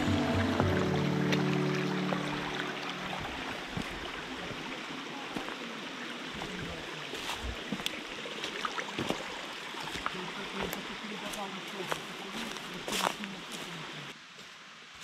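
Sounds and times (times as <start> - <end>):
hiking boots on leaves and rocks: 0.0 - 15.0
stream running over stones: 0.0 - 15.0.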